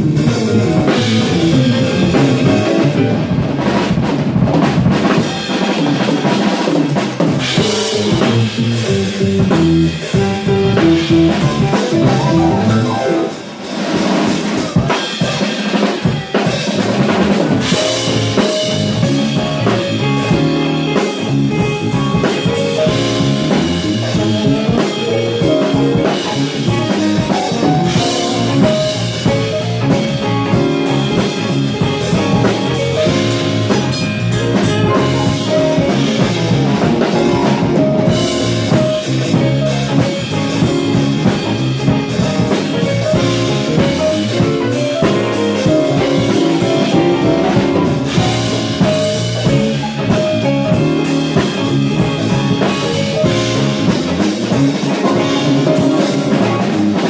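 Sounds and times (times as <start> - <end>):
electric bass: 0.0 - 15.1, 16.5 - 57.0
drum kit: 0.0 - 57.0
electric guitar: 0.0 - 57.0
keyboard: 0.0 - 57.0.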